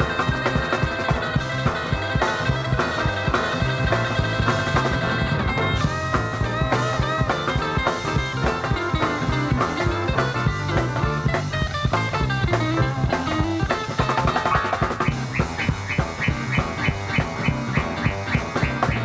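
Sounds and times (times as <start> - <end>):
instrumental music with drums and guitar: 0.0 - 19.0.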